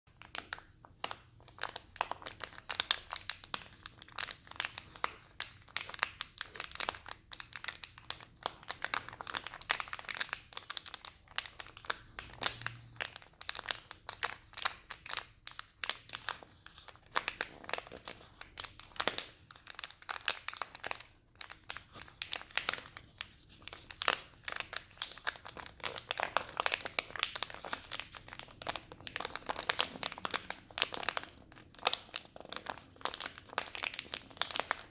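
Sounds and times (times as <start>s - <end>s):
packet crinkling: 0.1s - 34.9s.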